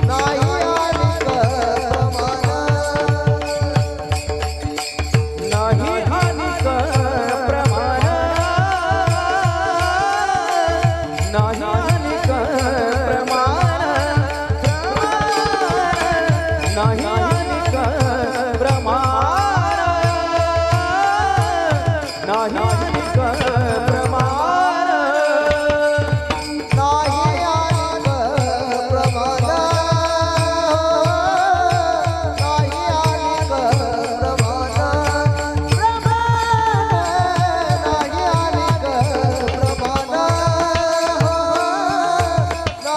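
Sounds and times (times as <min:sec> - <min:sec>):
quick drum beats: 0:00.0 - 0:24.6, 0:25.4 - 0:42.9
person singing devotional song: 0:00.0 - 0:42.9.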